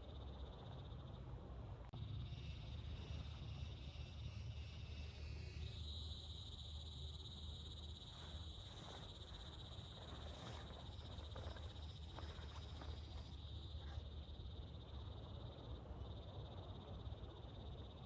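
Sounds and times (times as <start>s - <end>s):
frogs and insects trilling: 0.0s - 1.3s, 1.9s - 18.0s.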